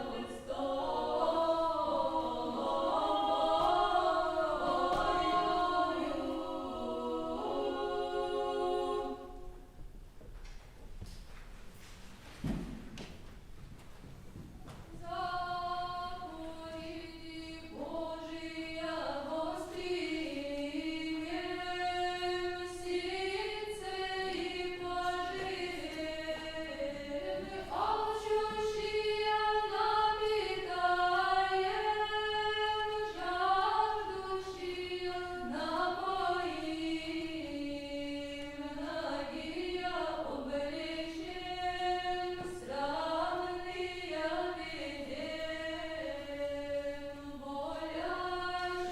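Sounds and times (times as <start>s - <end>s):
choir singing a cappella: 0.0s - 10.0s, 14.9s - 48.9s.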